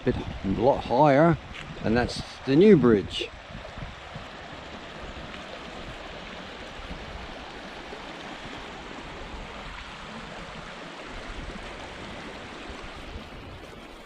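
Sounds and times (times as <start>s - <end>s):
river water rushing: 0.5s - 14.0s.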